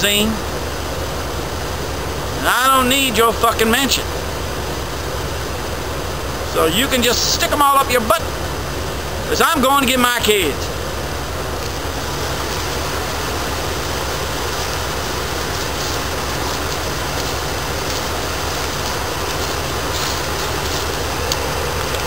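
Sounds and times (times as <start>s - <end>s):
van engine idling: 0.0s - 22.0s.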